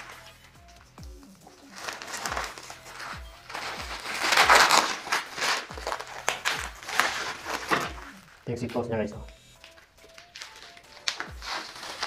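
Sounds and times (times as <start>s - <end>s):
plastic wrapping crinkling: 0.0s - 8.5s, 9.6s - 12.0s
background music with kick drum: 0.0s - 12.0s.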